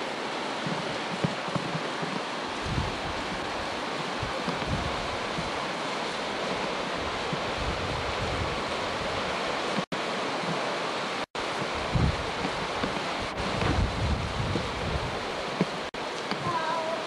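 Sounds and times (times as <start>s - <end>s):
surf rushing: 0.0s - 17.0s
wind buffeting microphone: 0.6s - 9.8s, 11.4s - 16.6s.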